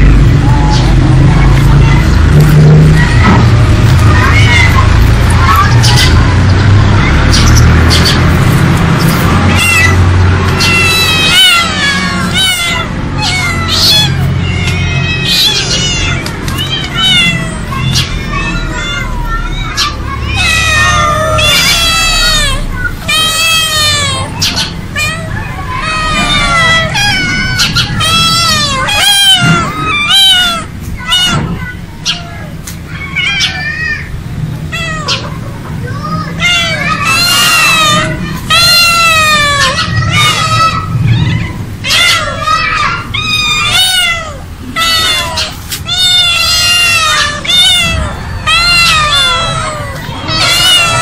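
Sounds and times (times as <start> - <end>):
cats meowing: 0.0 - 51.0.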